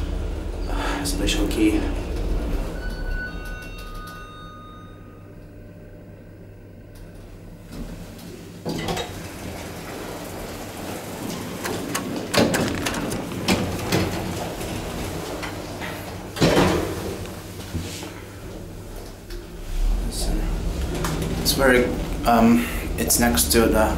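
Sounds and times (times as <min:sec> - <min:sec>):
elevator doors clattering open: 0:00.0 - 0:05.0, 0:07.0 - 0:23.9
elevator whine: 0:00.0 - 0:23.9.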